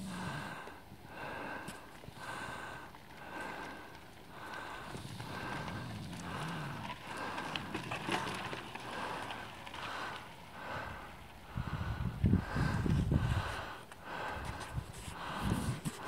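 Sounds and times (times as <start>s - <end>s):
hard breathing: 0.0s - 16.0s
bike tyres rattling on rocky trail: 0.1s - 16.0s.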